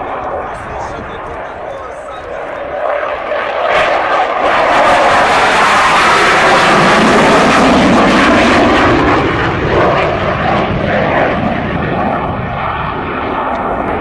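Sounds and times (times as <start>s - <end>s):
fighter jet roaring past: 0.0s - 14.0s.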